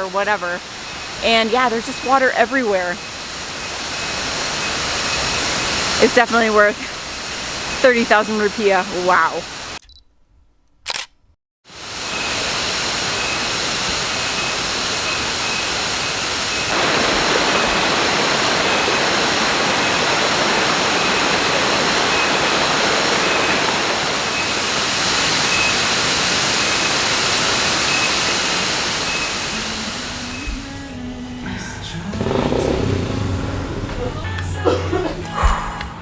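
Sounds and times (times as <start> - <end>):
insects buzzing: 0.0 - 9.8, 11.8 - 35.5
waterfall rushing: 0.0 - 9.8, 11.7 - 35.4.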